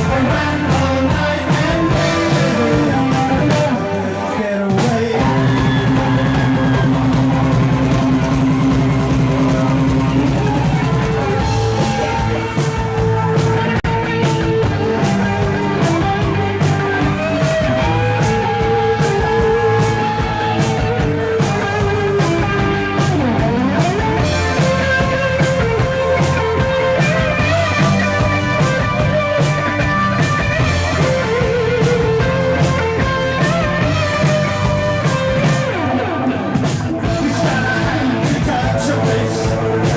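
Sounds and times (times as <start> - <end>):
drum kit playing: 0.0 - 39.9
electric guitar: 0.0 - 39.9.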